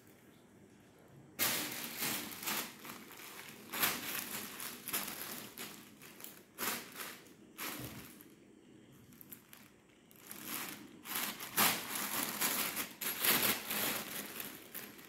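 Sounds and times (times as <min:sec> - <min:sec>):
plastic bag crinkling: 0:01.4 - 0:15.0.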